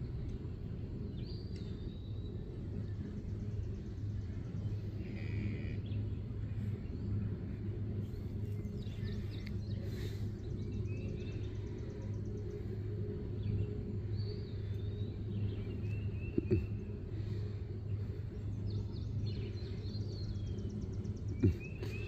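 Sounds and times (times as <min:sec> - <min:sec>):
low background rumble: 0:00.0 - 0:22.0
songbirds chirping: 0:00.0 - 0:22.0.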